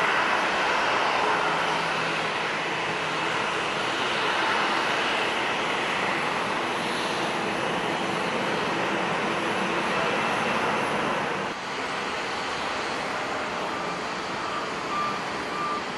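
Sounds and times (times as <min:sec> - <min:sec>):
jet engines rushing: 0:00.0 - 0:15.9.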